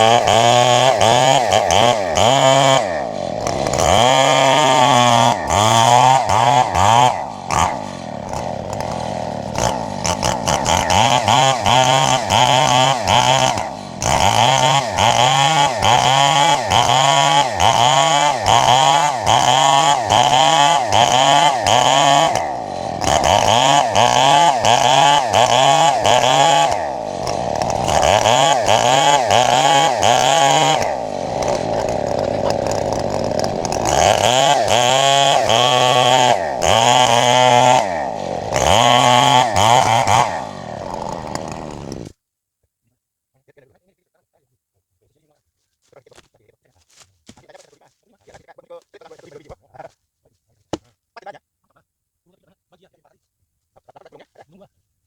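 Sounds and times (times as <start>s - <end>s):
chainsaw cutting wood: 0.0s - 42.2s, 46.1s - 48.4s.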